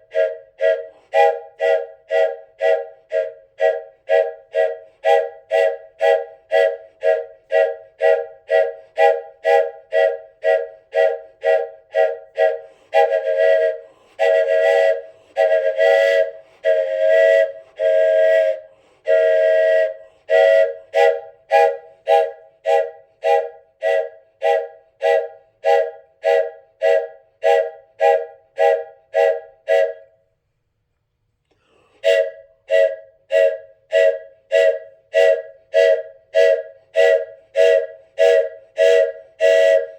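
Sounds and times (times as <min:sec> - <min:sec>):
wooden train whistle puffs: 0:00.0 - 0:30.3, 0:31.6 - 0:39.9.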